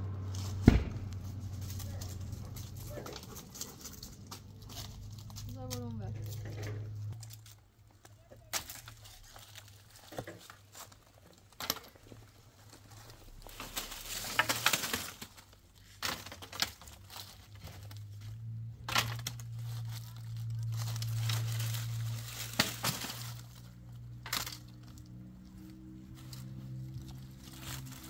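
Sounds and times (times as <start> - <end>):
twigs crackling and snapping: 0.1 - 28.0.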